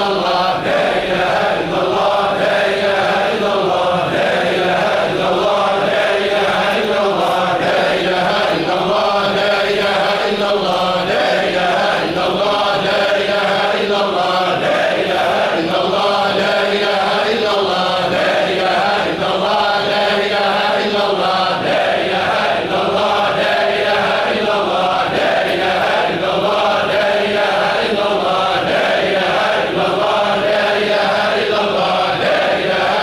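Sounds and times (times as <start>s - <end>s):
men chanting in unison: 0.0s - 33.0s.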